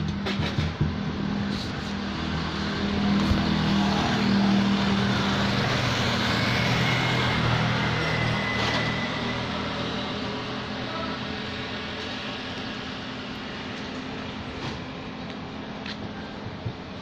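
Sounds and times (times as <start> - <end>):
vehicle engine running: 0.0 - 16.4
road noise: 0.0 - 17.0.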